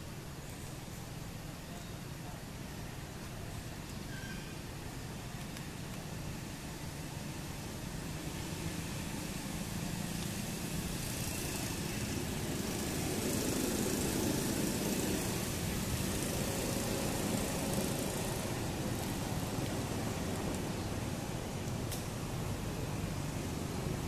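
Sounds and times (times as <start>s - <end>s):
low engine hum: 4.7s - 24.0s.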